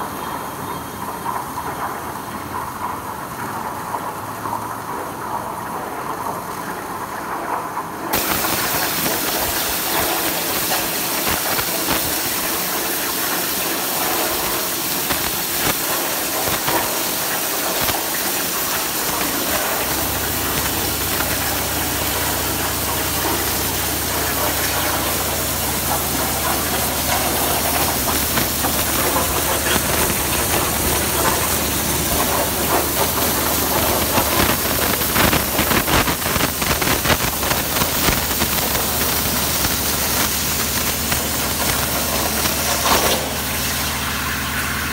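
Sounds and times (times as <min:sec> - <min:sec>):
plasma cutter hissing: 0:08.1 - 0:44.9.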